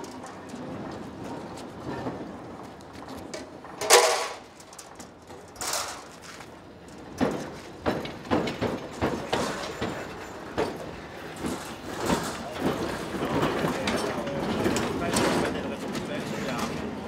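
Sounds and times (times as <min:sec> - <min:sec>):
tram wheels clacking over rail joints: 0:00.0 - 0:17.0.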